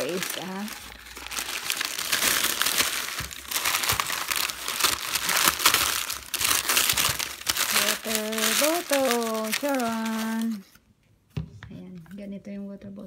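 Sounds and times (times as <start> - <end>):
wrapping paper crinkling and tearing: 0.0 - 10.8.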